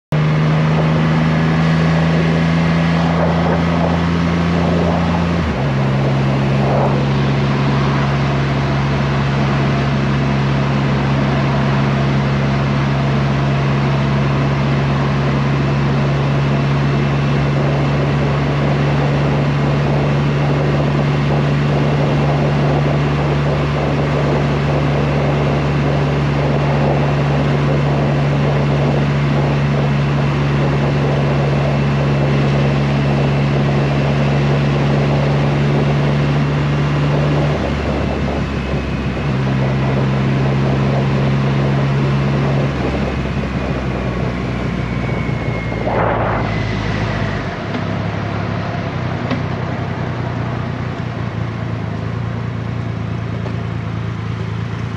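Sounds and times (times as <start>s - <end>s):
motorcycle engine cruising: 0.0s - 54.9s
wind noise: 0.1s - 54.9s.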